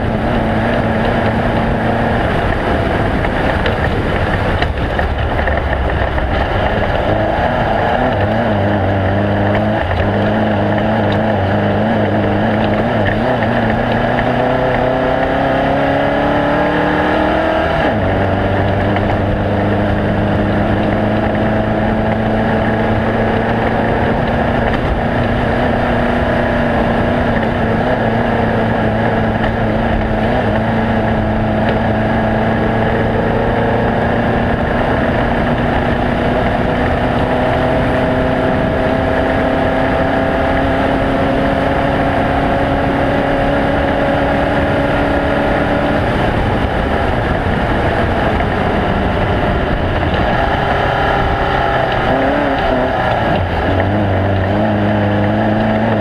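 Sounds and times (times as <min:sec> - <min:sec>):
race vehicle engine running: 0:00.0 - 0:56.0.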